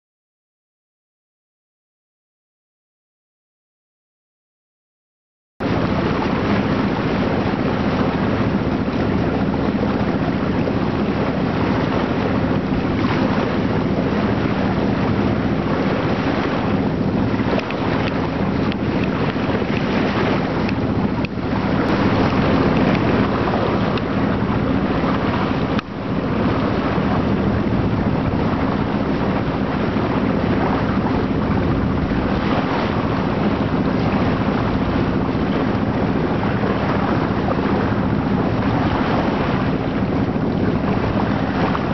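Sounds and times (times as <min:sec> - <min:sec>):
steady low hum: 0:05.6 - 0:41.9
water rushing past boat: 0:05.6 - 0:41.9
wind buffeting microphone: 0:05.6 - 0:41.9.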